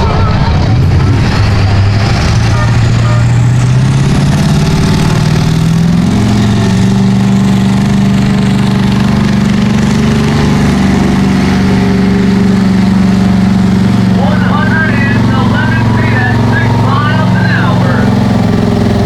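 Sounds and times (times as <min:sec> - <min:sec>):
truck engine revving high: 0:00.0 - 0:19.0.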